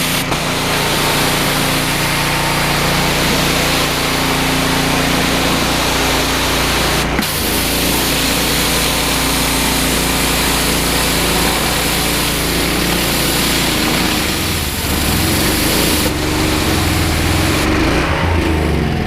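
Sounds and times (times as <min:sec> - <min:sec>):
high-pressure water spray hiss: 0:00.0 - 0:18.0
petrol engine running: 0:00.0 - 0:19.0.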